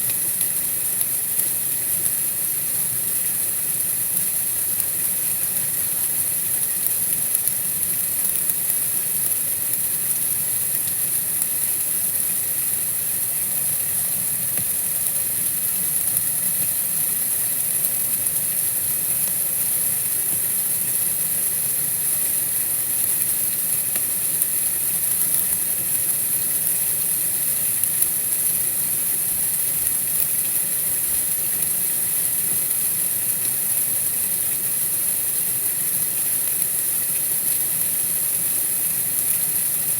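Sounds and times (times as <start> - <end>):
high-pitched white noise hiss: 0.0 - 39.9.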